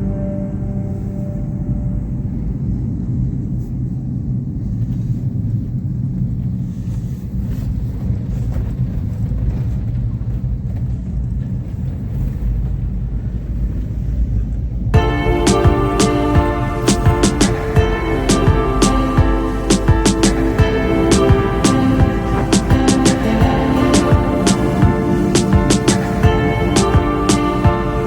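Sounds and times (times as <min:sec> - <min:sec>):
vehicle rumbling: 0:00.0 - 0:28.0.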